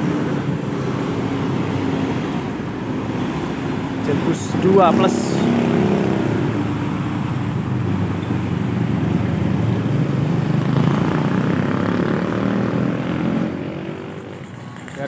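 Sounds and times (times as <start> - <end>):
diesel bus engine drone: 0.0 - 15.0.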